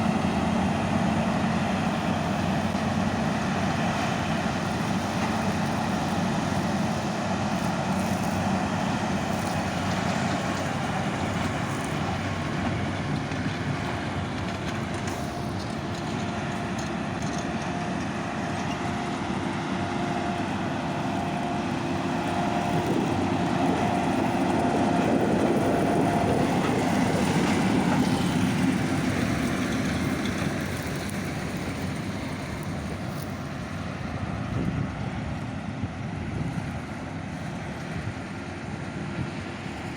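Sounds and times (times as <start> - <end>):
heavy farm machinery running: 0.0 - 39.9.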